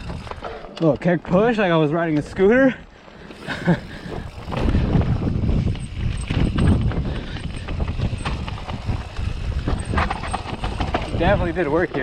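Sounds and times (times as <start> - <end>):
bike clicks and rattles: 0.0 - 12.0
bike tyres rumbling on dirt: 0.0 - 12.0.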